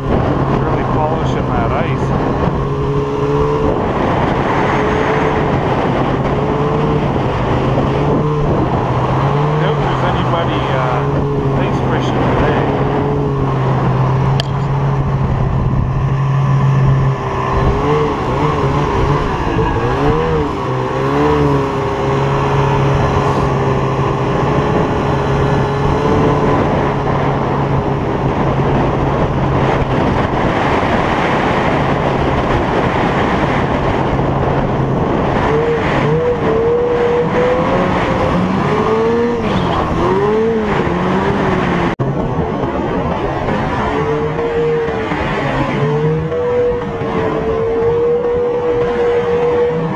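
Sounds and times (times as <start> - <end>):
snowmobile engine running: 0.0 - 49.9
wind on microphone: 0.0 - 49.9.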